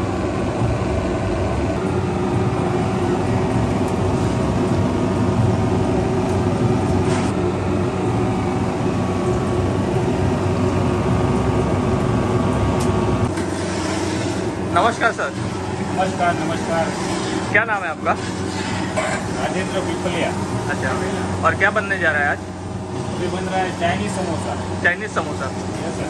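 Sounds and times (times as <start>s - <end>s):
machinery humming: 0.0s - 26.0s.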